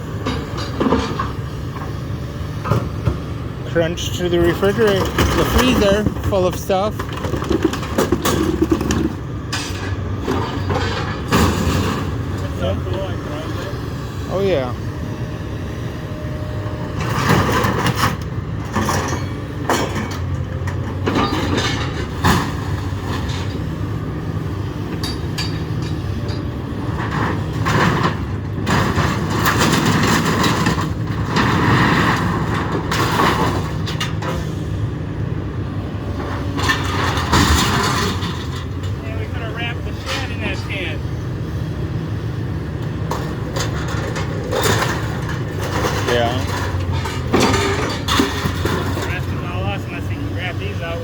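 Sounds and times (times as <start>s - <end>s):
heavy machine engine running: 0.0s - 51.0s
scrap metal clanking and crunching: 0.0s - 51.0s.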